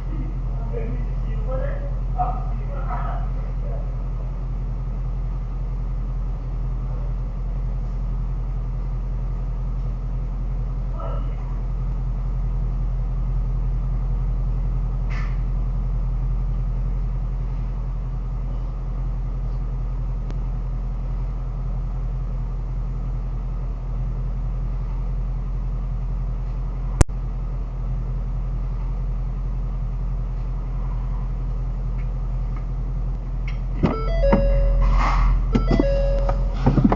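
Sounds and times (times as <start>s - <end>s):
car engine rumbling: 0.0s - 36.9s.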